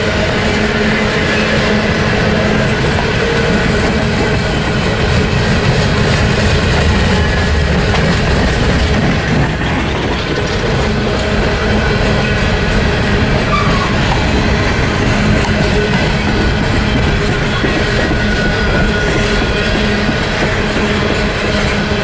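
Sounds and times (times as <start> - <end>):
freight train rolling past: 0.0 - 22.0
wheels clacking over rail joints: 0.6 - 22.0.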